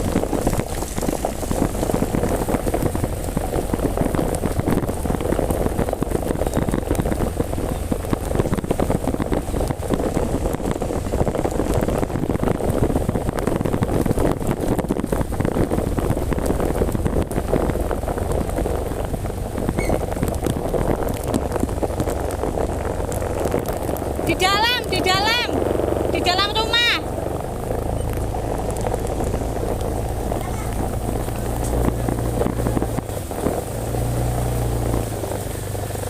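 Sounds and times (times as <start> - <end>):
heavy rain pouring: 0.0 - 36.0
low rumble: 0.0 - 36.0.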